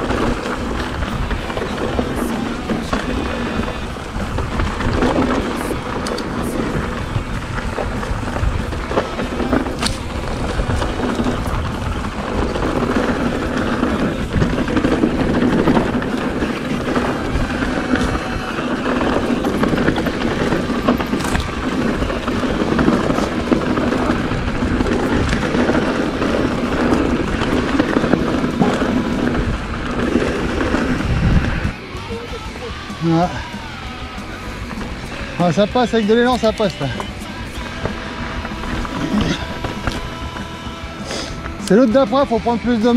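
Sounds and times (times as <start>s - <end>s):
bike clattering: 0.0s - 42.9s
loud uneven rush of noise: 0.0s - 42.9s
tyres rattling on stones: 0.0s - 42.9s.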